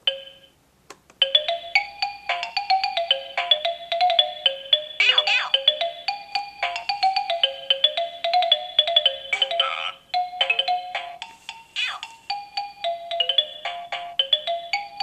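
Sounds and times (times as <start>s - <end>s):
baby toy beeping electronic tune: 1.2s - 15.0s.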